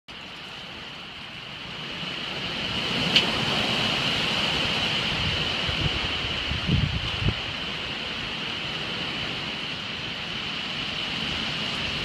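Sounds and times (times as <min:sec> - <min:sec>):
wind and heavy rain: 0:00.1 - 0:12.0
wind gusts on microphone: 0:00.1 - 0:12.0.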